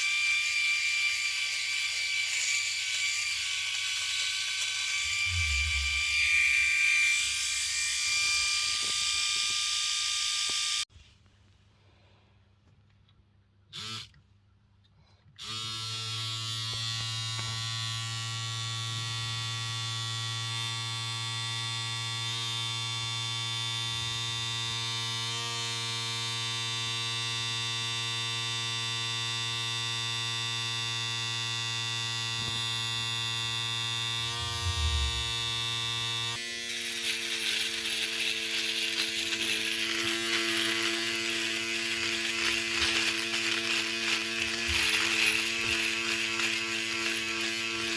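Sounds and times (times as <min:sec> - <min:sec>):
electric shaver buzzing: 0:00.0 - 0:10.9, 0:13.7 - 0:14.2, 0:15.4 - 0:47.9.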